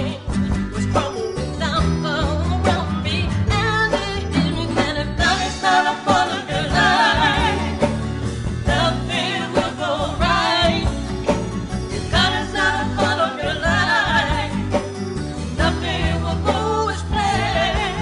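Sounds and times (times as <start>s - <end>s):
woman singing gospel: 0.0s - 7.9s, 8.7s - 11.0s, 12.1s - 14.8s, 15.6s - 18.0s
instrumental accompaniment: 0.0s - 18.0s.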